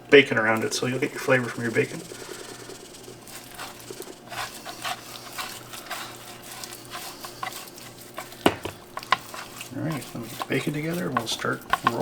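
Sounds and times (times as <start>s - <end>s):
food being handled by hand: 0.4s - 12.0s.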